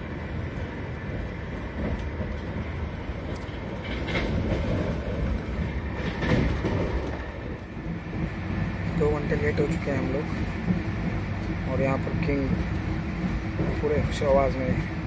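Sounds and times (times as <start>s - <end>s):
train wheel and rail rumble: 0.0s - 15.0s.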